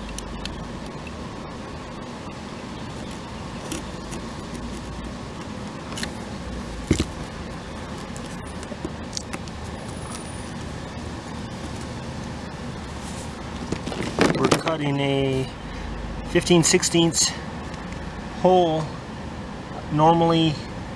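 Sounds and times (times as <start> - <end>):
outdoor background noise: 0.0 - 20.9.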